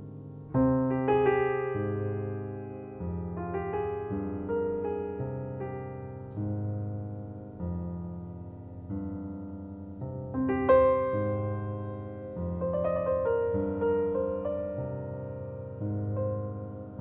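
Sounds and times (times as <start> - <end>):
high piano melody notes: 0.0 - 17.0
slow piano chords: 0.0 - 17.0.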